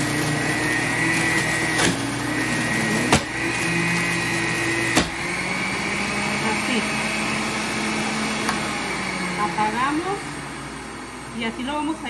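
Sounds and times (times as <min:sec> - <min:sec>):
juicer motor whine: 0:00.0 - 0:12.0.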